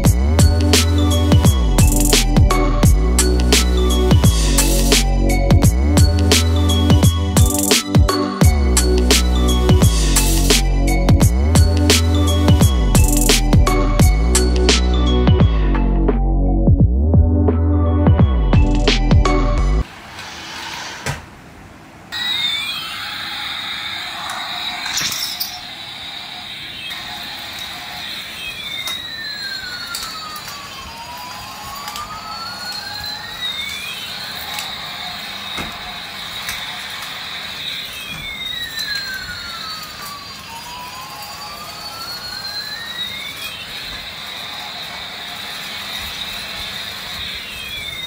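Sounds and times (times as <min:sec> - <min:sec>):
high whistling electronic tone: 0:00.0 - 0:21.0, 0:22.1 - 0:48.0
siren-like electronic sweeps: 0:00.0 - 0:21.0, 0:22.1 - 0:48.0.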